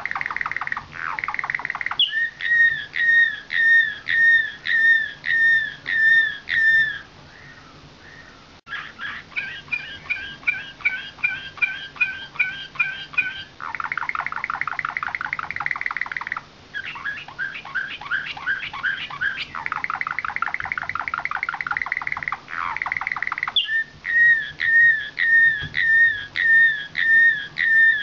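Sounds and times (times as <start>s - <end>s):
canary singing chirps and trills: 0.0s - 28.0s.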